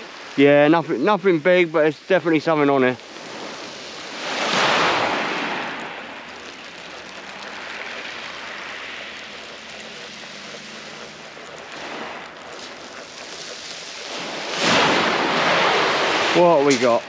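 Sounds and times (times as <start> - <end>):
surf hissing on shingle: 0.0 - 17.0
fishing reel gears whirring: 1.2 - 17.0.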